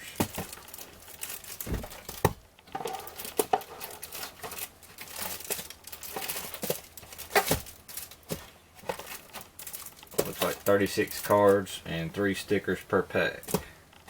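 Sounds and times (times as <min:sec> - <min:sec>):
packaging crinkling and tearing: 0:00.0 - 0:11.7.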